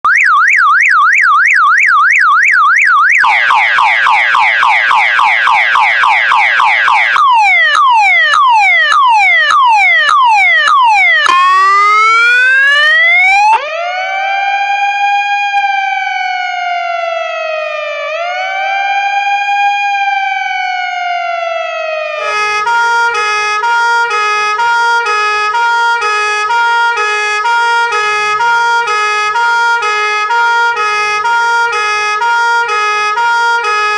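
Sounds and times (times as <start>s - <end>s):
emergency vehicle sirens: 0.0s - 33.9s.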